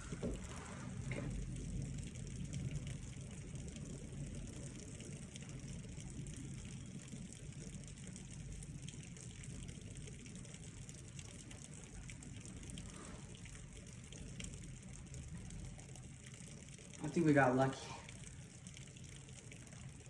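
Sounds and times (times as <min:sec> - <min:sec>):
faint ticks of drops: 0:00.0 - 0:20.0
steady rain falling: 0:00.0 - 0:20.0.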